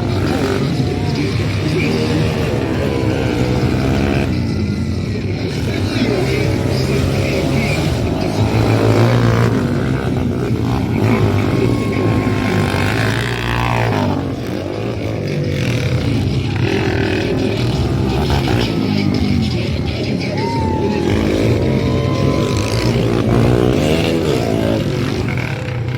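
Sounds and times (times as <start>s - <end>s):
dirt bike engines revving: 0.0s - 25.9s.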